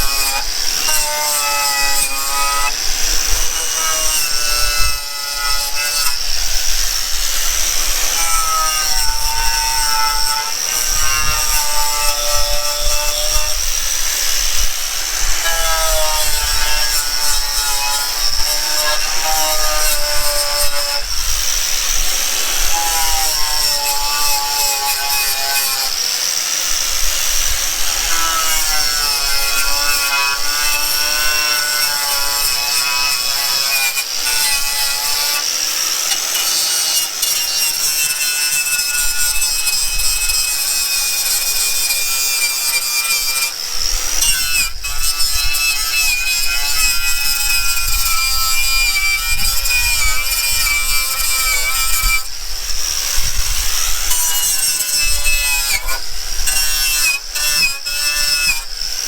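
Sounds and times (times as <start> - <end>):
power tool whining and abrading: 0.0 - 59.0.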